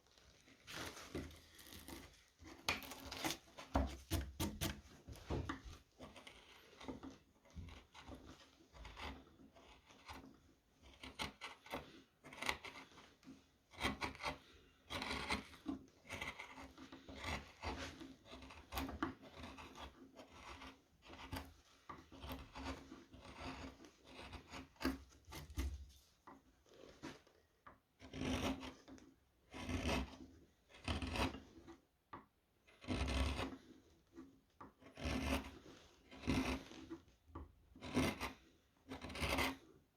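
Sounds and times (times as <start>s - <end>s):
gouge scraping wood: 0.5s - 31.8s, 32.7s - 39.7s.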